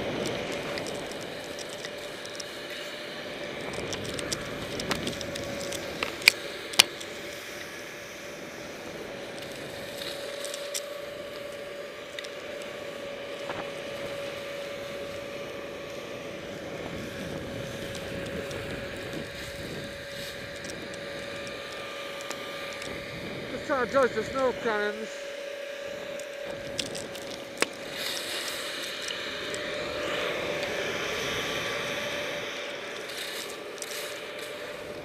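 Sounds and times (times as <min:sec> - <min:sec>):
skis hissing on snow: 0:00.0 - 0:35.0
steady hum: 0:00.0 - 0:35.0.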